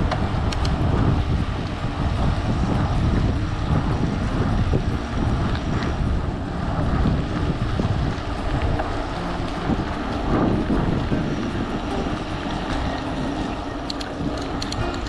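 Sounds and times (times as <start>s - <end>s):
tyres rolling on wet asphalt: 0.0s - 15.0s
wind buffeting microphone: 0.0s - 15.0s.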